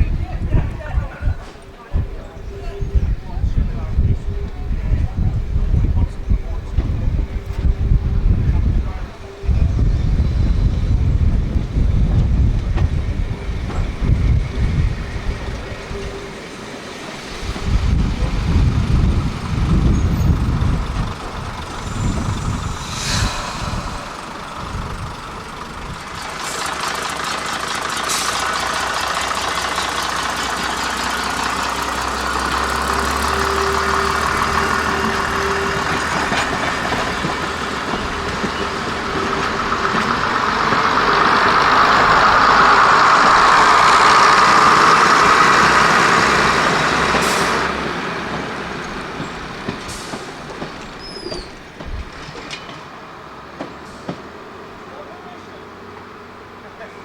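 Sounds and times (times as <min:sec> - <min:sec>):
wind buffeting microphone: 0:00.0 - 0:16.4, 0:17.2 - 0:52.6
train engine running: 0:00.0 - 0:57.0.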